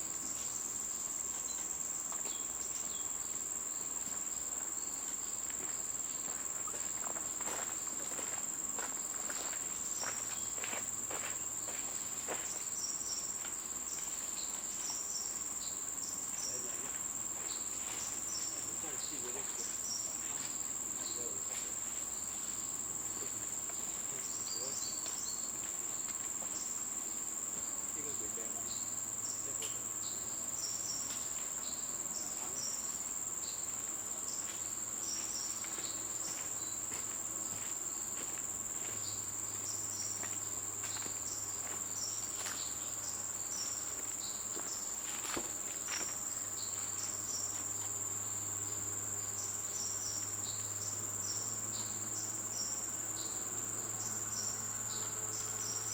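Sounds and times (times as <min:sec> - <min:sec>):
high-pitched insect drone: 0:00.0 - 0:55.9.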